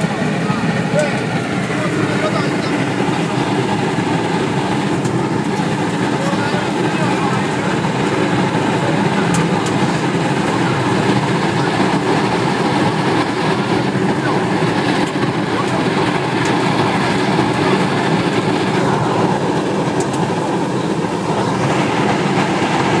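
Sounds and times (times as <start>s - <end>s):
burner flame rushing: 0.0s - 23.0s.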